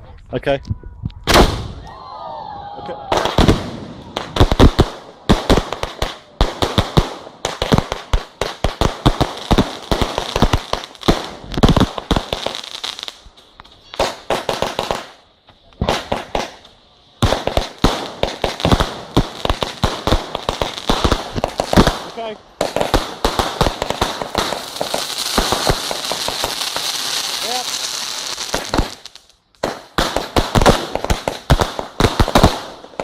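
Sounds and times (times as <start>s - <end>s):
fireworks bangs and crackling: 1.1s - 2.0s, 2.9s - 33.0s.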